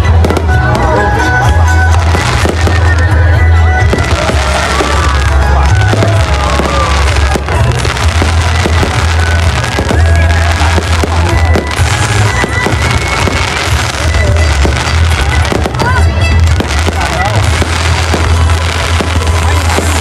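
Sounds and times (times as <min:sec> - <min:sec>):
fireworks cracking and popping: 0:00.0 - 0:20.0
loud music with heavy bass: 0:00.0 - 0:20.0.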